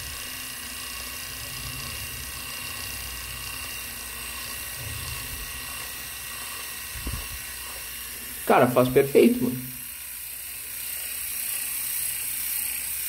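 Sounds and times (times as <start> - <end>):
electric shaver motor buzzing: 0.0 - 13.0.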